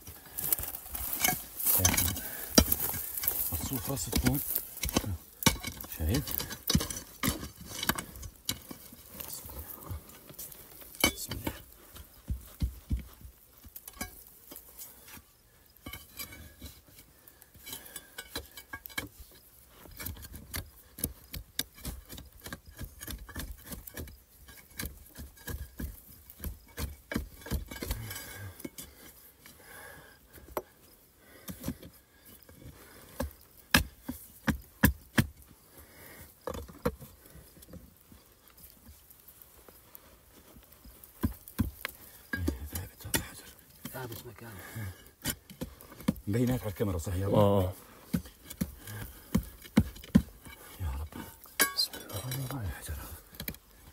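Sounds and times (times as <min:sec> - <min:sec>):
stones knocking and scraping: 0:00.0 - 0:53.9.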